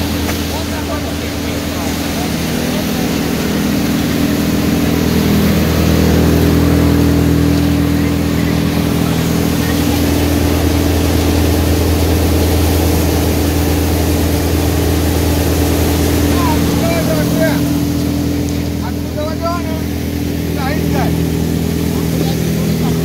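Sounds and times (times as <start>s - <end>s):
thresher and tractor engine droning: 0.0s - 23.0s.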